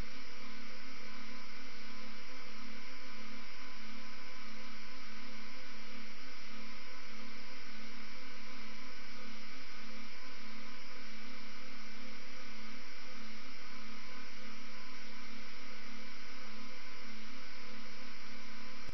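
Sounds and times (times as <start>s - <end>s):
electronic hum with hiss: 0.0s - 18.9s.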